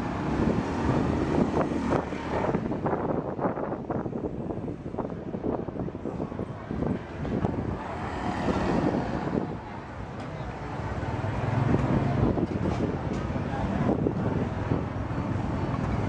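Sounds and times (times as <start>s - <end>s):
motorbikes and cars passing: 0.0s - 16.0s
wind buffeting microphone: 0.0s - 16.0s.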